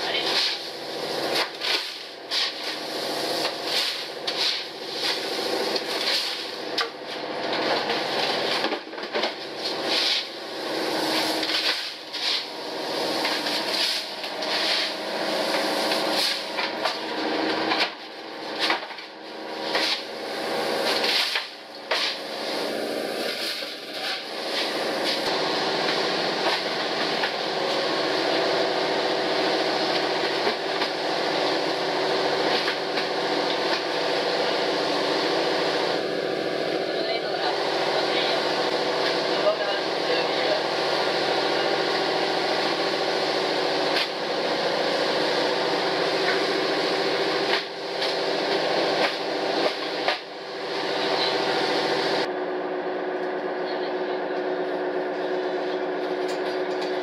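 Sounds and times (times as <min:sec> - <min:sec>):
processing machinery hum: 0:00.0 - 0:57.0.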